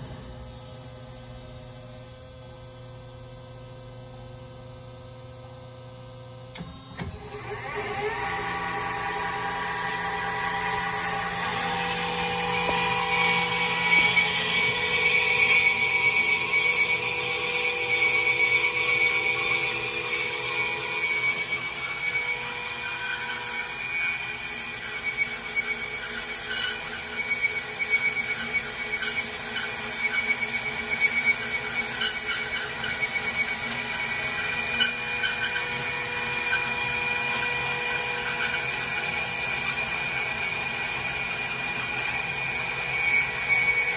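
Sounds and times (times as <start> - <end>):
bandsaw cutting metal: 7.2 - 43.9.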